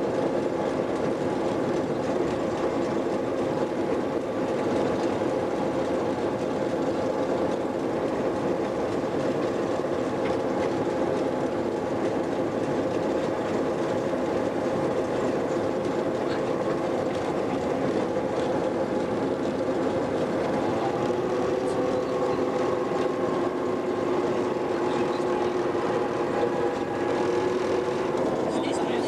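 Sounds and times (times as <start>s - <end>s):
diesel locomotive engine droning: 0.0s - 29.0s
wheels running on rails: 0.0s - 29.0s.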